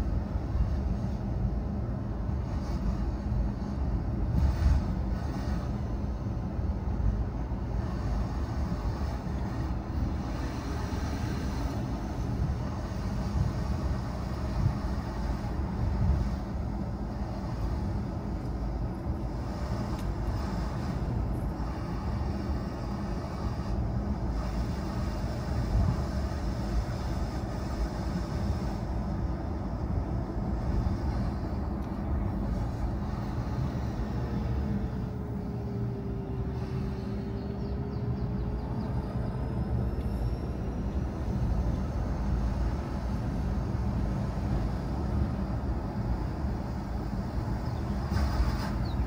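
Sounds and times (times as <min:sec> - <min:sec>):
car engine and tyre noise: 0:00.0 - 0:49.0.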